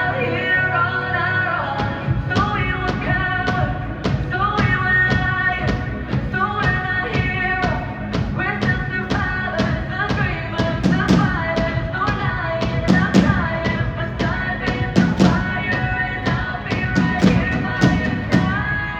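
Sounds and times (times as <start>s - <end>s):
pop song: 0.0s - 18.9s
steady drum beat: 1.8s - 18.9s.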